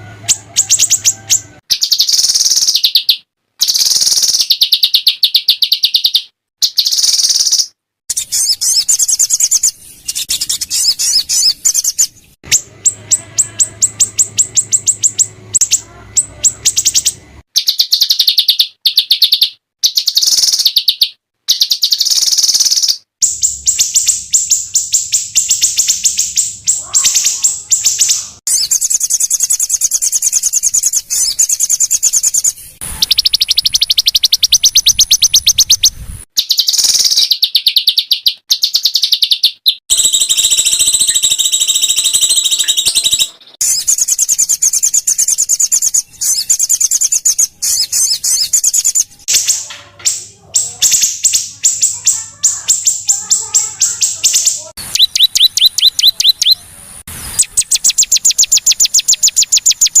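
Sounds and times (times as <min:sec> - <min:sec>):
songbirds trilling: 0:00.0 - 1:00.0.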